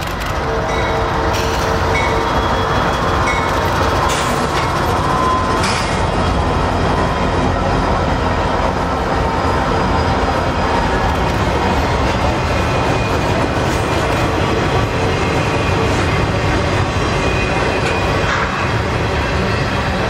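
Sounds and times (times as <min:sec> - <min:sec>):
locomotive engines running: 0:00.0 - 0:20.0
train wheels on rails: 0:00.0 - 0:20.0.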